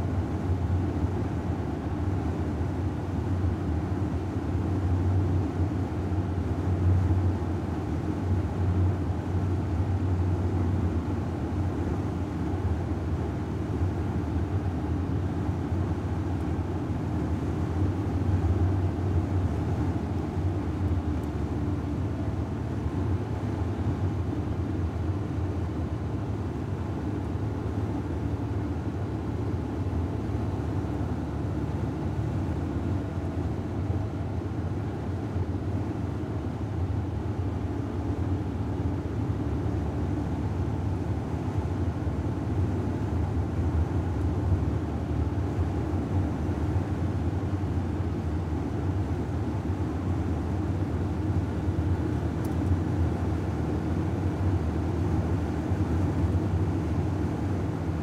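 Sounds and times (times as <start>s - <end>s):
car cabin road and engine noise: 0.0s - 58.0s.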